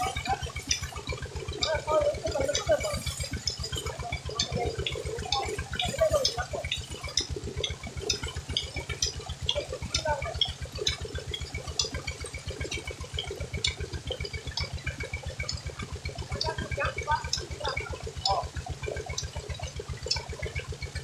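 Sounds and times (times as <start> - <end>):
rapid low thumping: 0.0 - 21.0
water gushing and splashing: 0.0 - 21.0.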